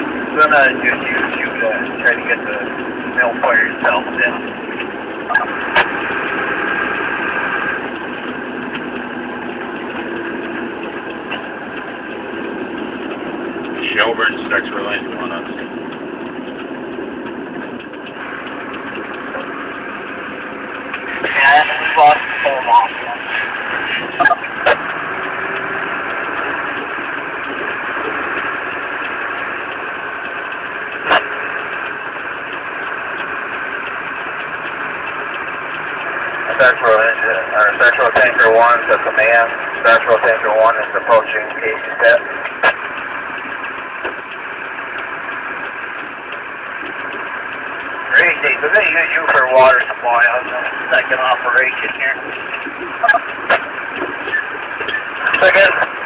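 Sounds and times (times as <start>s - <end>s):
fire engine running: 0.0s - 56.0s.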